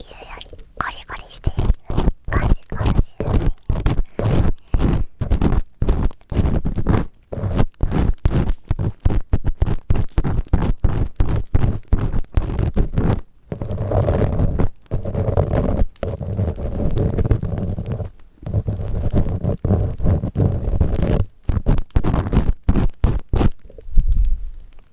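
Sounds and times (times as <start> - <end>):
rubbing against microphone: 0.0 - 24.6
ear pick scraping microphone: 1.4 - 23.8.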